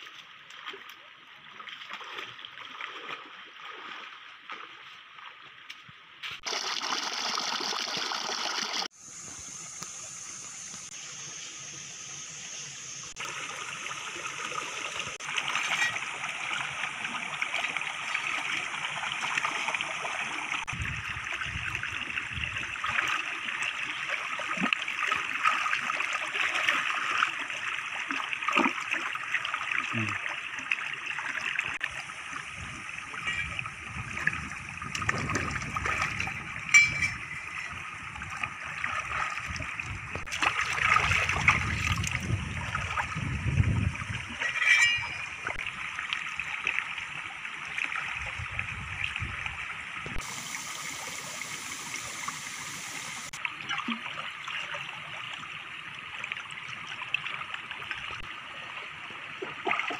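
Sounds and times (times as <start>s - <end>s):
stream trickling over stones: 0.0s - 59.9s.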